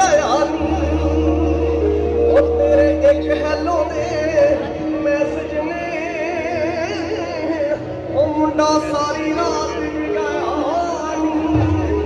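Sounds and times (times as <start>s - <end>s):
person singing ornamented melody: 0.0s - 12.0s
steady bass line: 0.0s - 12.0s.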